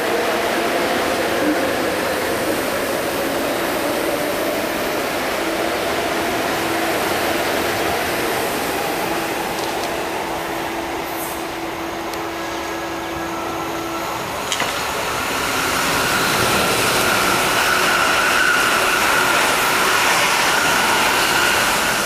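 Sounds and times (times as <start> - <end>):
electric train running past: 0.0 - 22.0.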